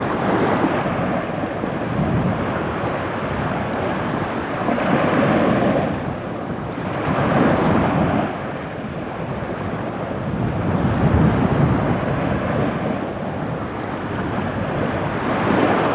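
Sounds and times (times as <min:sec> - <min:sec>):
waves washing onto beach: 0:00.0 - 0:15.9
wind buffeting microphone: 0:00.0 - 0:15.9.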